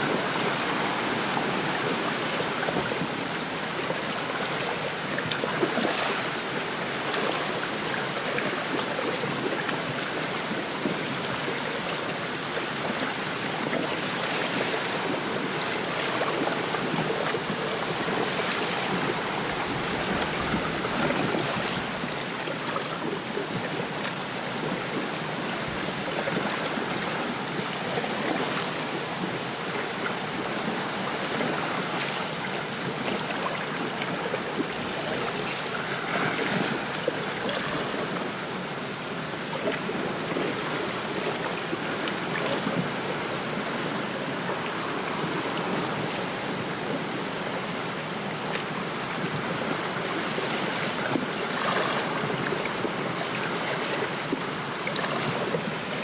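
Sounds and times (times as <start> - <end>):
small waves lapping: 0.0 - 56.0.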